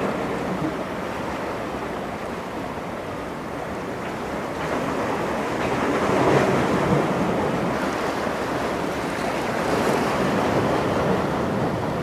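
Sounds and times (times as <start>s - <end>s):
sea surf rushing: 0.0s - 12.0s.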